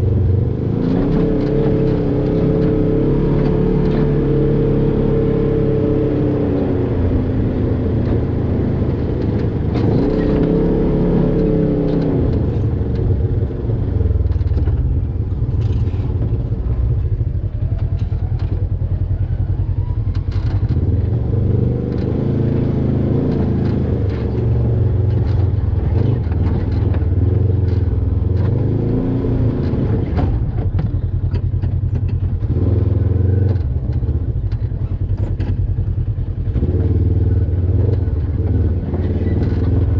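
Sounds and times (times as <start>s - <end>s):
engine revving at low speed: 0.0s - 39.9s.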